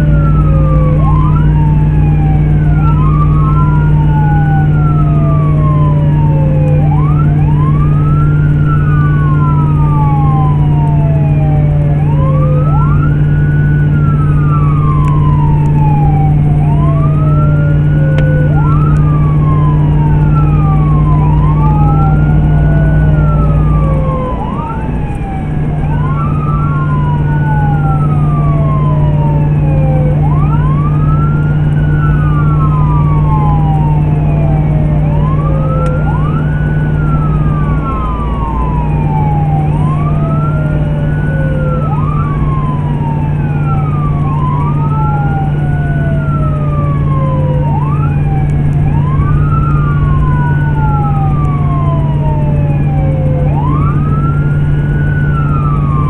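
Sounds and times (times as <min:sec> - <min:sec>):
electronic siren wailing: 0:00.0 - 0:56.0
engine and road drone: 0:00.0 - 0:56.0.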